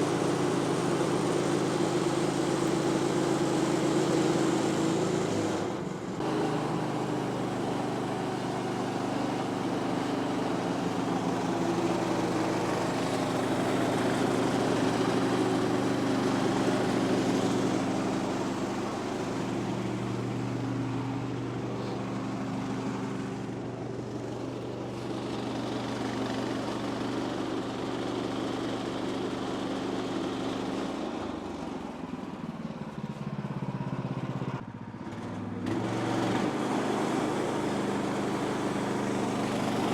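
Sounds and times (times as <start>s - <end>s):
gas engine running under load: 0.0s - 39.9s.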